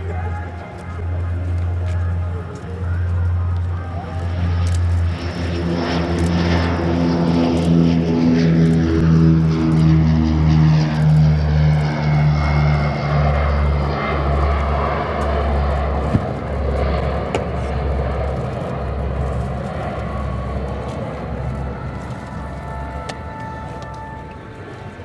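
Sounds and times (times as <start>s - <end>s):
broad engine rumble: 0.0s - 25.0s
propeller airliner drone overhead: 0.0s - 25.0s.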